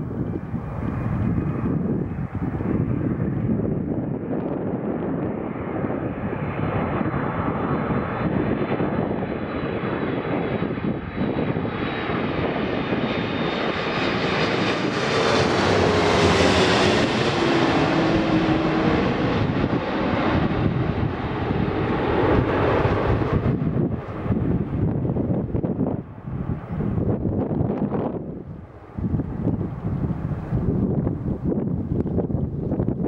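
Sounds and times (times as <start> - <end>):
jet airliner passing overhead: 0.0 - 33.0
jet engine whine: 0.0 - 33.0.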